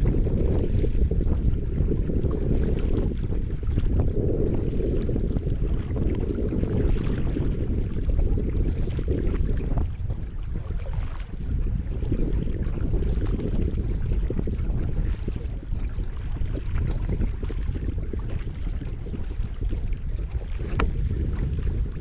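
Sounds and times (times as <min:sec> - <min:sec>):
paddle blades splashing in water: 0:00.0 - 0:22.0
rush of moving water: 0:00.0 - 0:22.0.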